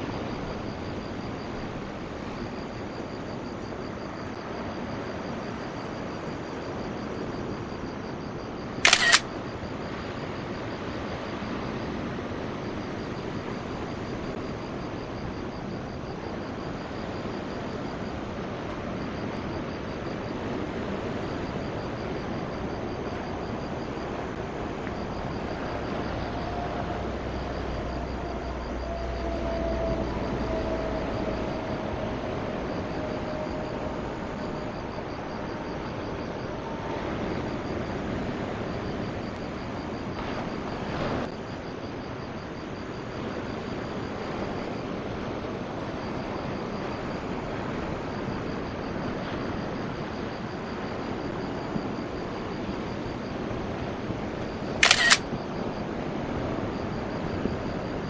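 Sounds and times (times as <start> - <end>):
steady outdoor noise: 0.0 - 58.0.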